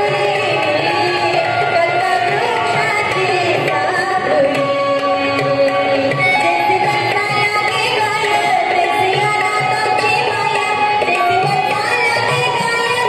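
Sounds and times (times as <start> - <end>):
percussion rhythm: 0.0 - 13.0.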